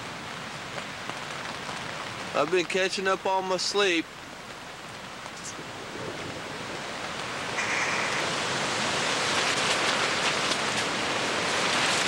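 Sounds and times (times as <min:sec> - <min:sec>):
rain and wind on tent: 0:00.0 - 0:12.0.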